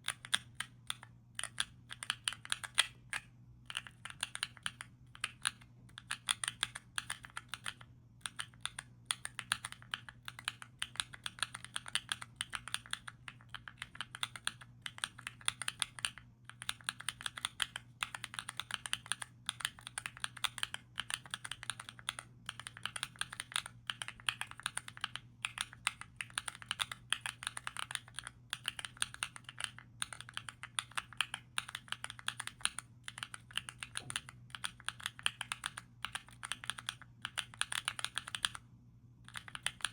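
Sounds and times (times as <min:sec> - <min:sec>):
mechanical keyboard typing: 0:00.0 - 0:38.6, 0:39.2 - 0:39.9
faint low hum: 0:00.0 - 0:39.9.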